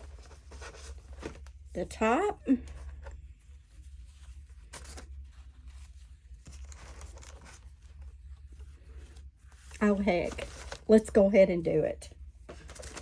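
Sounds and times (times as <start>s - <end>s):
faint rustling and handling: 0.0s - 13.0s.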